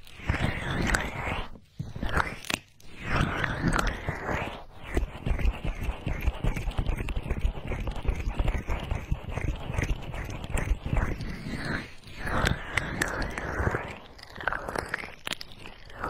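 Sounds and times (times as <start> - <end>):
fingers rubbing microphone: 0.0 - 16.0.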